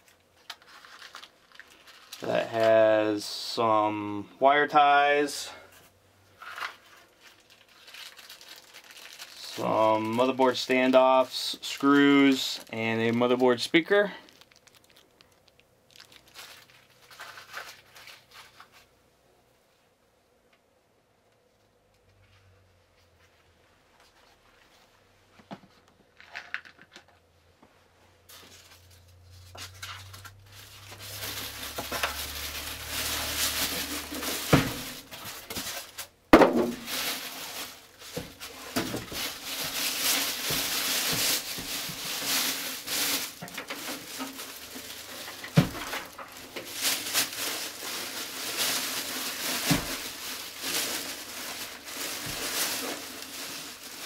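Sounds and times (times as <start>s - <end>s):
plastic bag and styrofoam crinkling: 0.0s - 3.9s, 4.8s - 18.9s, 28.3s - 54.0s.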